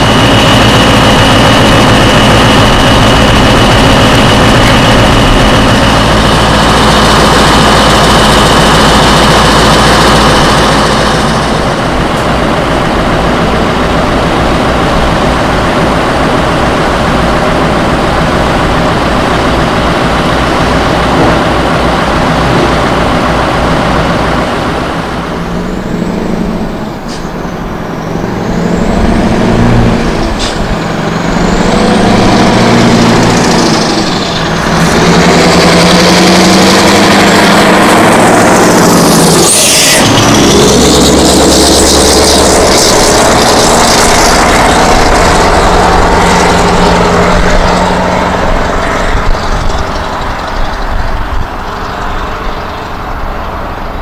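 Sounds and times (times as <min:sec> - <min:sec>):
loud diesel truck engine: 0:00.0 - 0:54.0.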